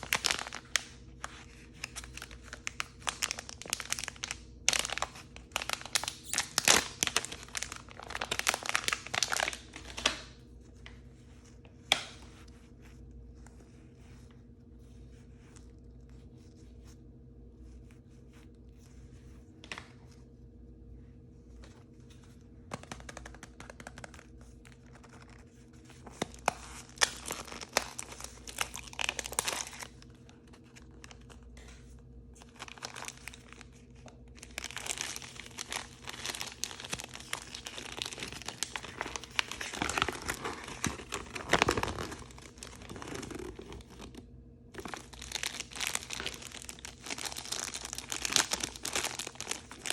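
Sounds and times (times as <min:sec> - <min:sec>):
plastic wrapping crinkling: 0:00.0 - 0:14.4, 0:21.6 - 0:49.9.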